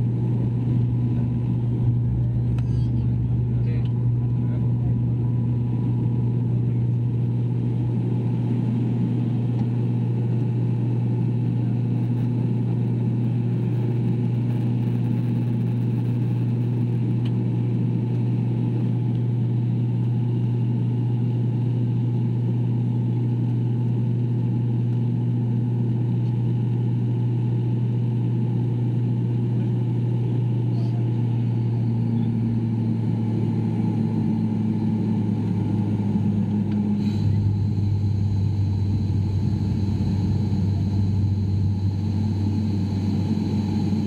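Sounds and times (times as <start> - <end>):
airplane engines humming in cabin: 0.0 - 44.0.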